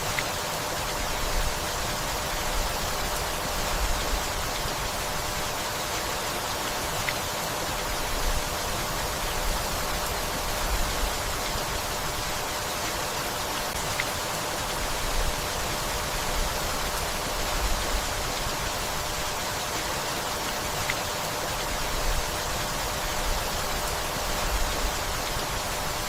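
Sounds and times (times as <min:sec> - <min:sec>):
rain on leaves: 0:00.0 - 0:26.0.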